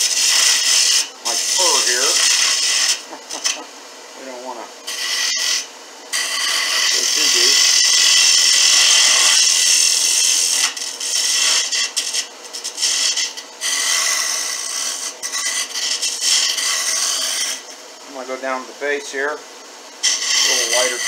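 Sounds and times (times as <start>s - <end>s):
lathe cutter shaving wood: 0.0s - 18.6s, 20.0s - 21.0s.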